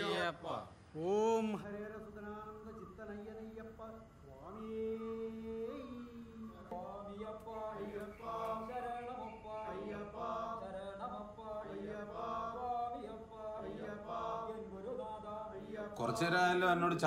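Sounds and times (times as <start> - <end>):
voices singing devotional chant: 0.0 - 17.0.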